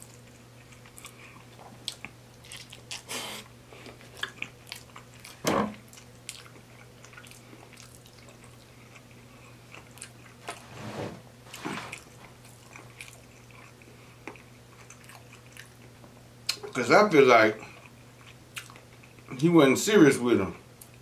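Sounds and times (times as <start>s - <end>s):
mouth chewing food: 0.0s - 10.6s, 11.9s - 16.8s, 17.6s - 19.4s.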